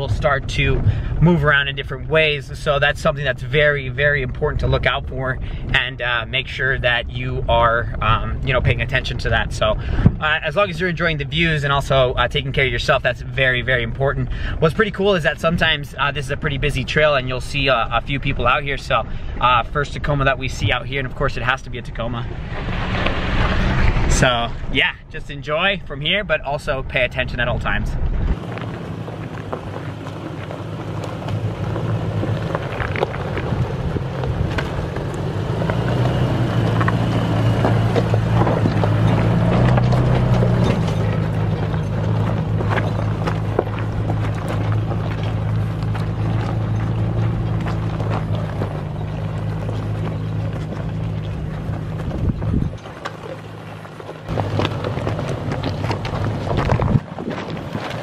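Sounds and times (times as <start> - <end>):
truck engine running slowly: 0.0 - 22.4, 28.4 - 58.0
tires crunching on stones: 0.0 - 58.0.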